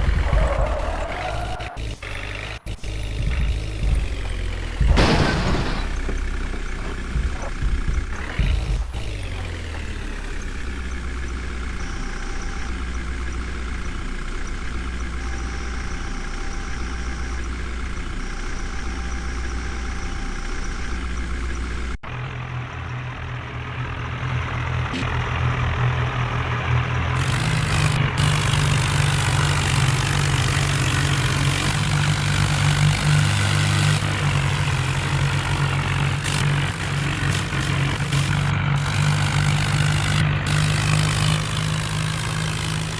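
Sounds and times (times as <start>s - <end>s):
diesel engine working hard: 0.0s - 42.9s
heavy diesel engine idling: 1.8s - 42.9s.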